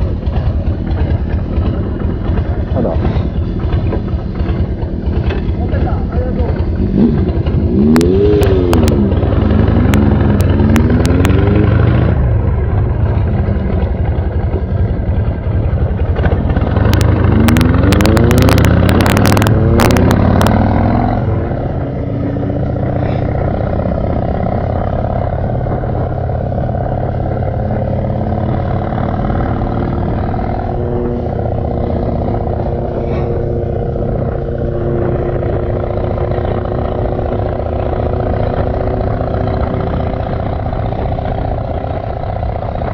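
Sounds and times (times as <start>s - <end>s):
engine crackles: 0.0s - 42.9s
motorcycle engine revving: 0.0s - 42.9s.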